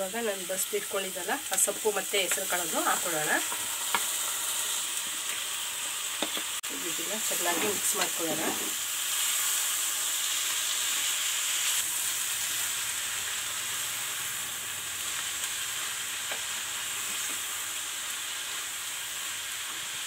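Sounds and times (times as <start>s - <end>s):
greens sizzling in hot oil: 0.0s - 20.0s.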